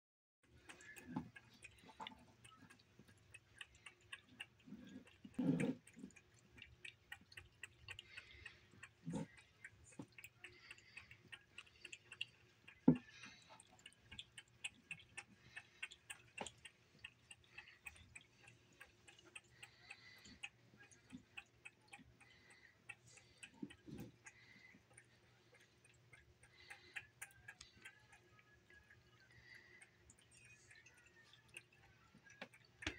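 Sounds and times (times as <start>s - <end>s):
cat lapping and chewing: 0.4s - 32.9s.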